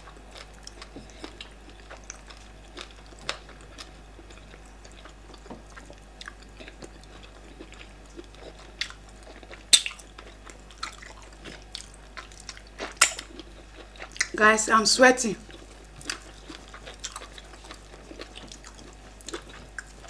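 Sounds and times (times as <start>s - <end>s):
wet chewing with smacks: 0.0s - 14.4s, 15.5s - 20.0s.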